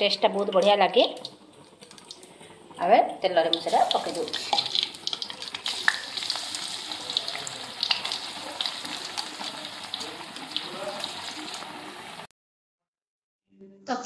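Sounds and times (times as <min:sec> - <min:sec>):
deep-frying sizzle with pops: 0:00.0 - 0:12.3.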